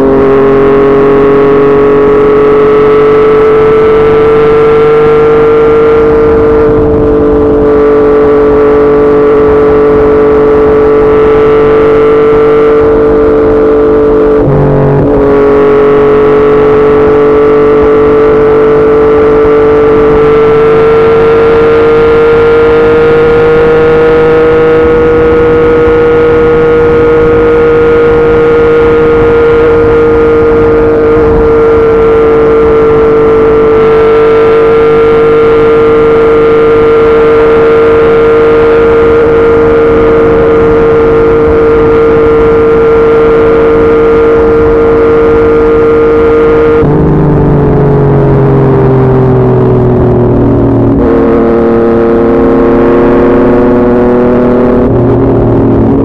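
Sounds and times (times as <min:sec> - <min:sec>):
motorcycle engine cruising: 0:00.0 - 0:56.0
road and wind noise: 0:00.0 - 0:56.0.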